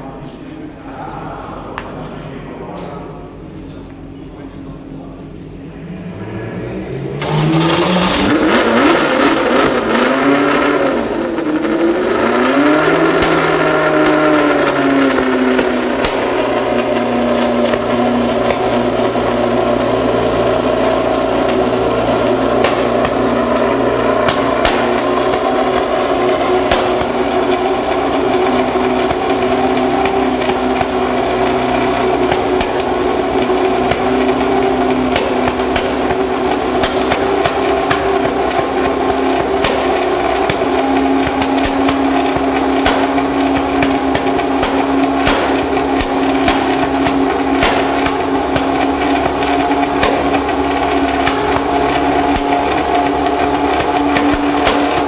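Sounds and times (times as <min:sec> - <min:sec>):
racing car engine idling: 0:00.0 - 0:55.0
sharp engine crackles: 0:01.7 - 0:55.0.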